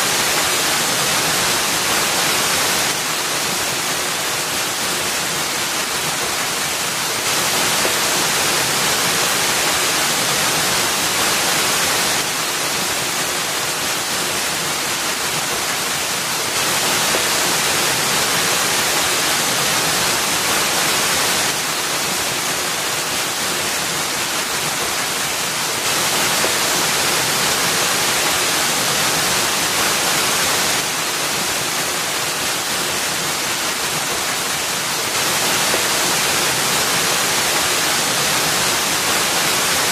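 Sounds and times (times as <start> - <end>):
waterfall splashing into pool: 0.0 - 39.9.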